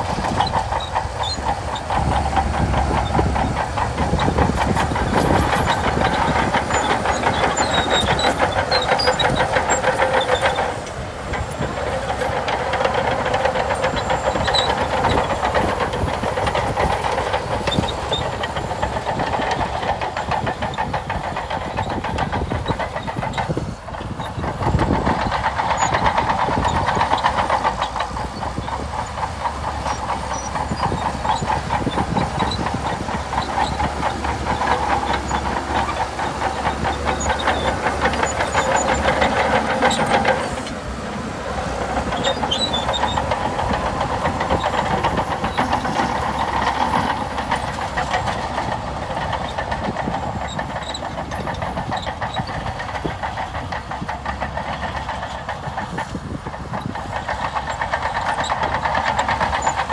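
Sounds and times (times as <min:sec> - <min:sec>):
bulldozer diesel engine clattering: 0:00.0 - 0:59.9.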